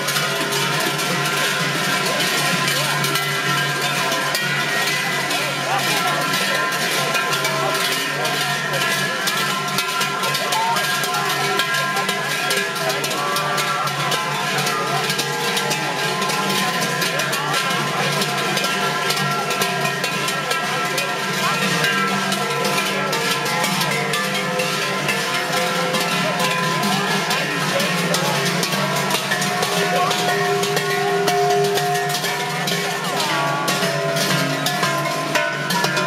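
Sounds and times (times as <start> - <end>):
crowd voices: 0.0 - 36.0
large bells jangling: 0.0 - 36.0.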